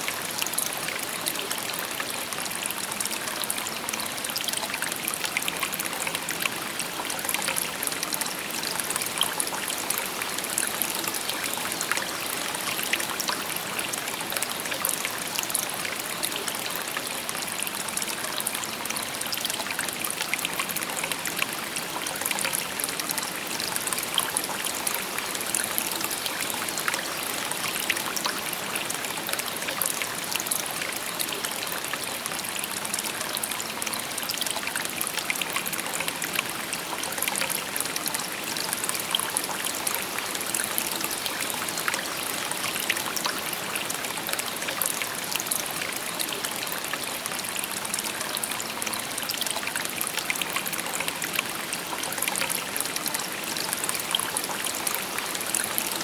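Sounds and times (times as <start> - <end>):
small splashes and trickles: 0.0 - 56.0.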